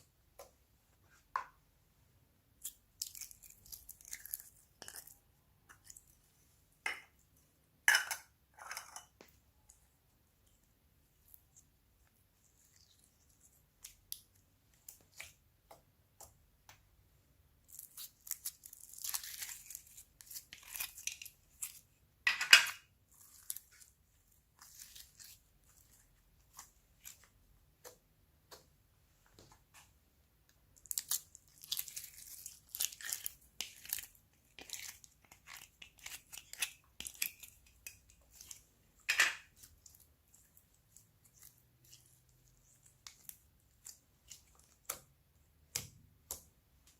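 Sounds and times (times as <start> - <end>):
slime squishing with wet crackling: 0.0 - 46.9.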